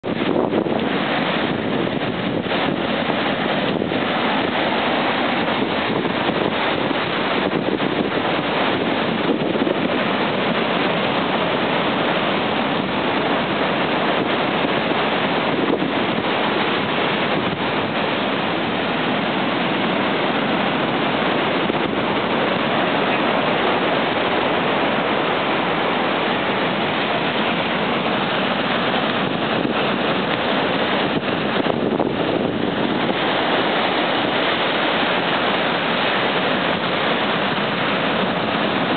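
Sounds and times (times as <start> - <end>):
surf breaking over rocks: 0.0 - 38.9.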